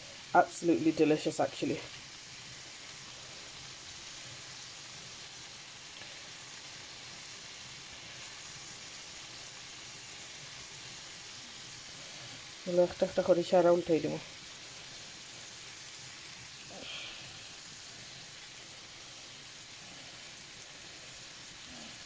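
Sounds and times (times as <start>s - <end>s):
prawns sizzling in oil: 0.0s - 22.0s.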